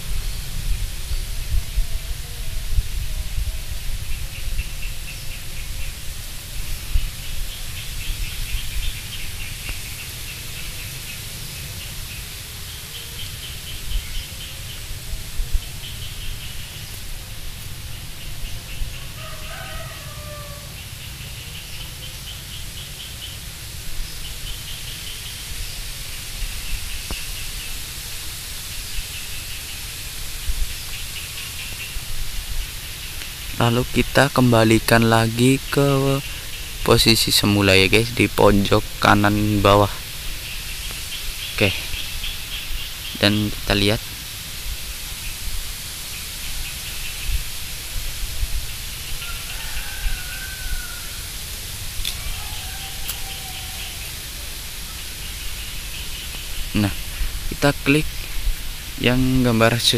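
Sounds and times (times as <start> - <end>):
lower bird call: 0.0 - 44.0, 46.1 - 59.9
birds chirping: 0.0 - 59.9.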